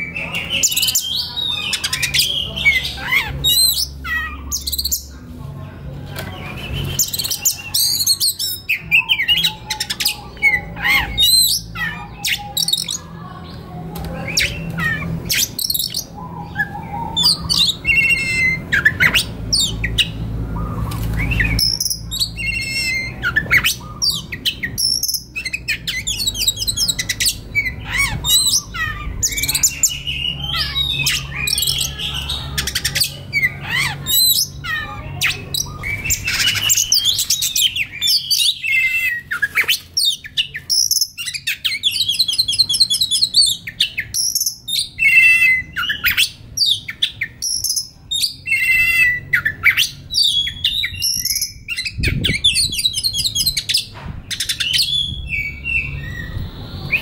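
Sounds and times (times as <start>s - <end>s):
bird singing whistles and trills: 6.3s - 13.0s, 14.2s - 57.0s.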